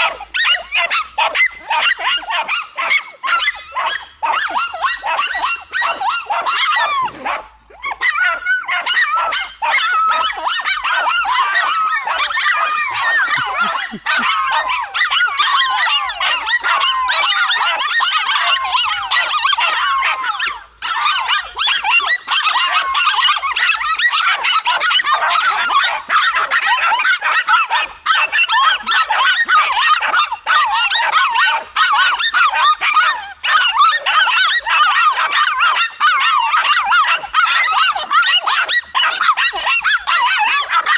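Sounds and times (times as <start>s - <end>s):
dogs barking and yelping: 0.0s - 40.9s.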